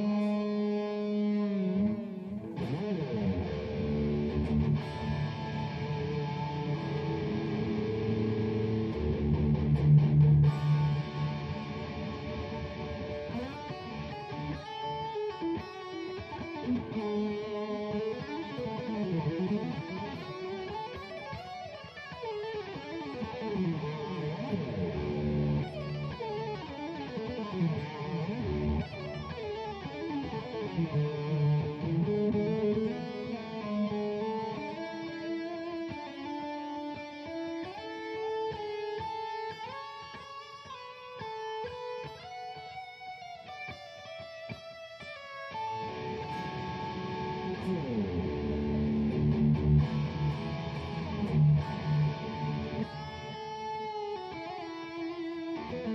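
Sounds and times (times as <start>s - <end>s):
electric guitar solo: 0.0s - 55.9s.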